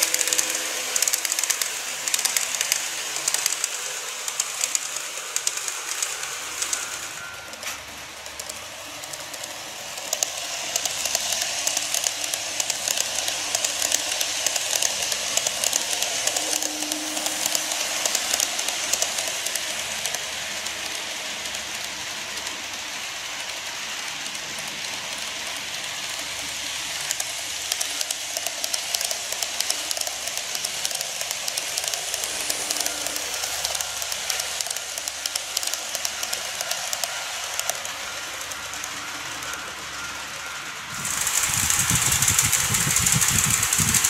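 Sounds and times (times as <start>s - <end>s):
model train rattling on track: 0.0s - 44.0s
wheels clicking over rail joints: 0.0s - 44.0s.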